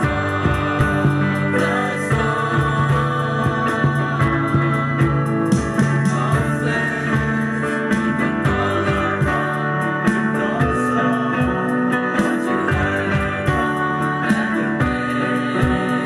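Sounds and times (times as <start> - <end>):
group of young voices singing: 0.0 - 16.0
guitar strumming: 0.0 - 16.0.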